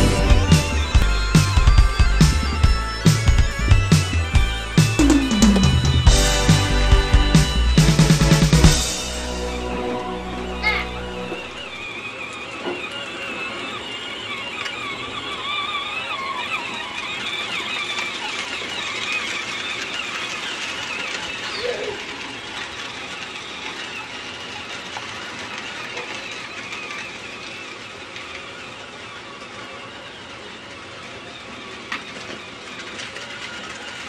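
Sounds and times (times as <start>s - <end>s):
electric toy tractor whine: 0.0s - 34.0s.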